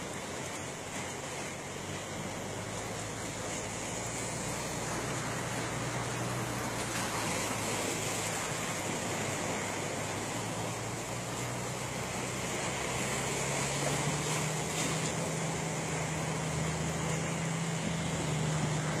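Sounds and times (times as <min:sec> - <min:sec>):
low engine hum: 0:00.0 - 0:19.0
wind and sea rushing: 0:00.0 - 0:19.0.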